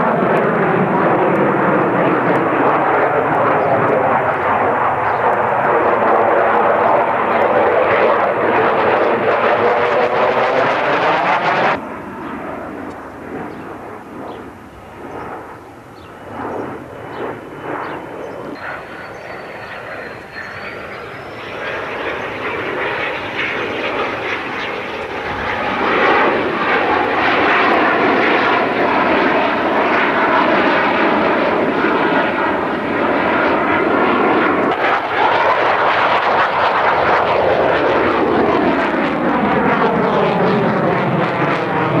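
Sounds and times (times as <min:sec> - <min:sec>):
jet flying by: 0:00.0 - 0:42.0.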